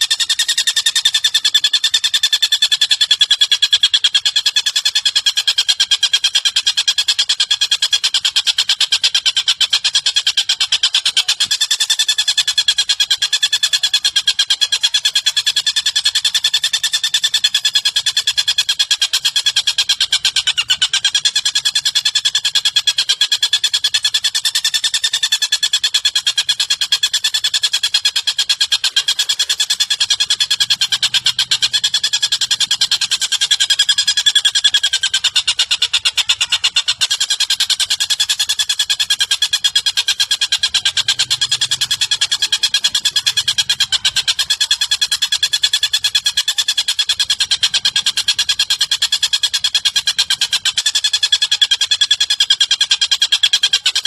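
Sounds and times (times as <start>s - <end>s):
buzzing bird trill: 0.0s - 54.0s.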